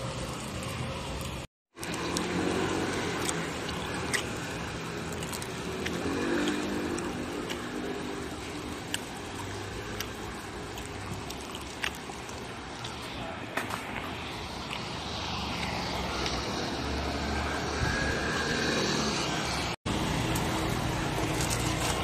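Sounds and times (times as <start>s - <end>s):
street noise: 0.0s - 22.0s.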